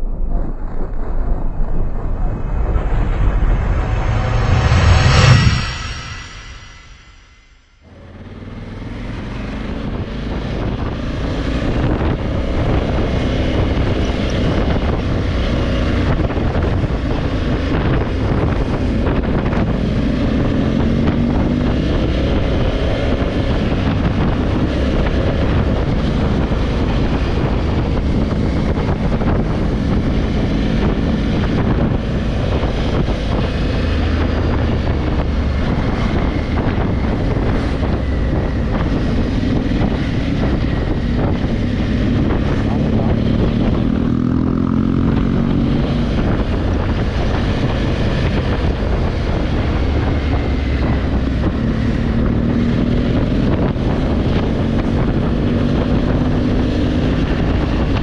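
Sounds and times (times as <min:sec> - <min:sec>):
wind buffeting microphone: 0:00.0 - 0:07.2, 0:07.8 - 0:58.0
motorcycle engine running: 0:07.9 - 0:58.0.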